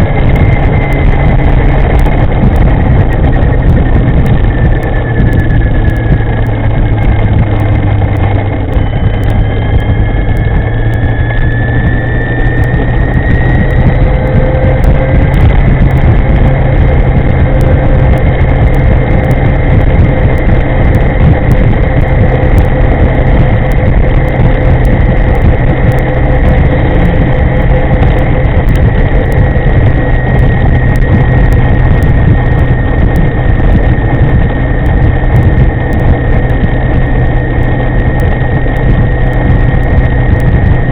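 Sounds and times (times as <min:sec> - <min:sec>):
high motor whine: 0:00.0 - 0:40.9
steady low rumble: 0:00.0 - 0:40.9
wind rush over microphone: 0:00.0 - 0:40.9.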